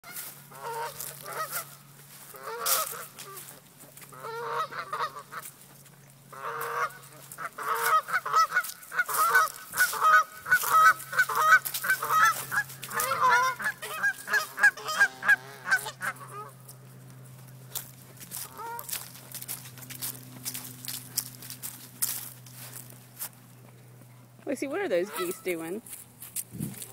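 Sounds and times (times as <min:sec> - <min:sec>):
geese honking: 0:00.0 - 0:23.4, 0:24.5 - 0:25.8.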